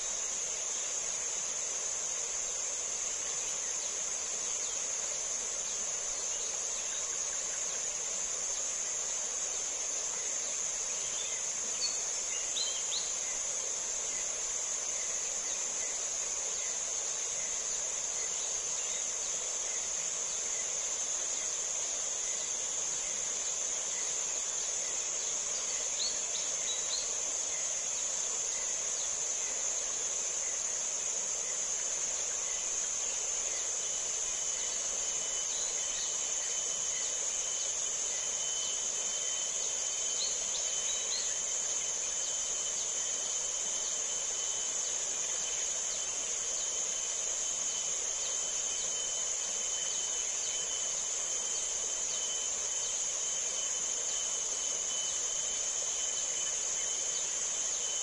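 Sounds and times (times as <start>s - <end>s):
insects buzzing chorus: 0.0s - 58.0s.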